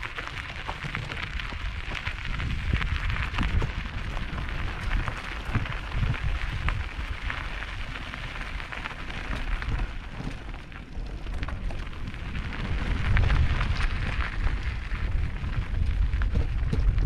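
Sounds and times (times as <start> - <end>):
bike tyres crunching over rocky trail: 0.0 - 17.0
stones and bike rattling: 0.0 - 17.0.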